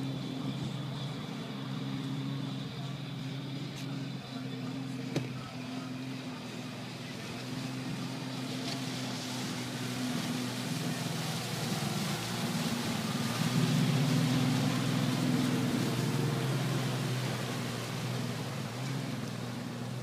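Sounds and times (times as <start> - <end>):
distant jet ski engine drone: 0.0 - 20.0.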